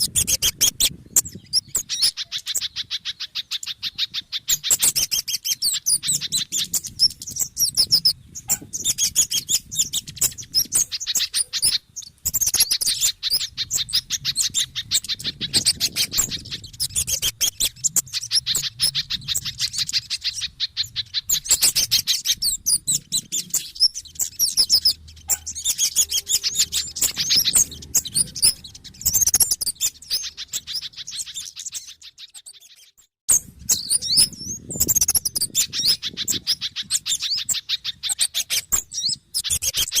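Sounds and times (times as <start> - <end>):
small birds chirping and chattering: 0.0 - 40.0.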